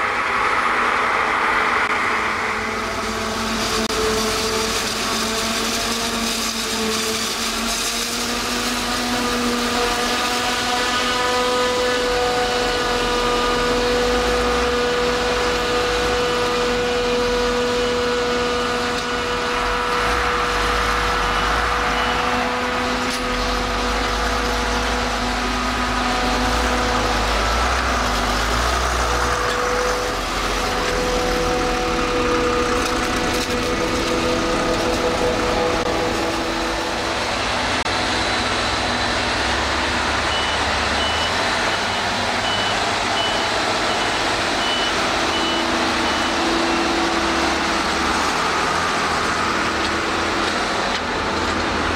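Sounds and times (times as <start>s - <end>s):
forage harvester machine drone: 0.0s - 51.9s
tractor engine rumble: 0.0s - 51.9s.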